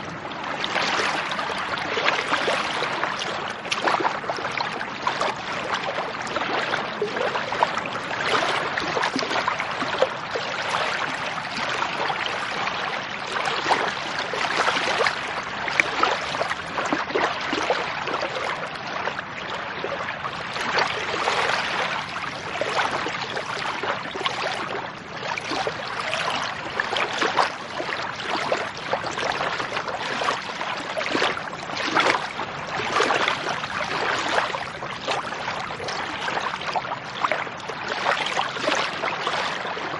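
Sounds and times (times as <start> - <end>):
lake water sloshing and splashing: 0.0 - 39.9.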